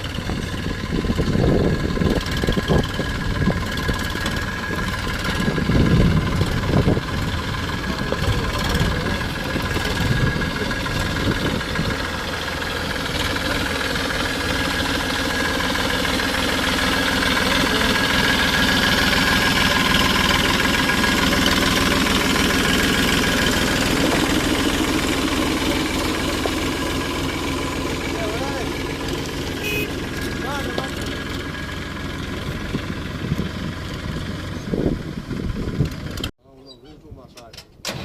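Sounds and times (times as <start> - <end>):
tractor diesel engine running: 0.0 - 36.3.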